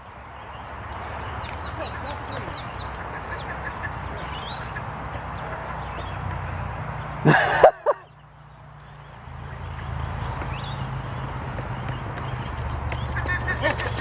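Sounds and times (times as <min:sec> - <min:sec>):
ducklings peeping: 0:00.3 - 0:07.3, 0:08.0 - 0:14.0.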